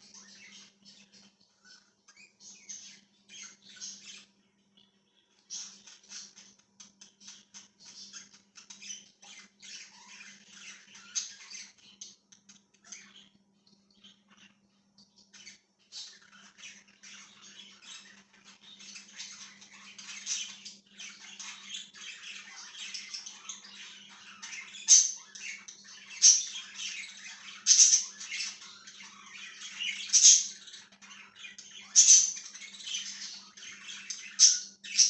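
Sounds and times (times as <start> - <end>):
budgerigars chattering: 0.1 - 13.4, 15.2 - 35.0.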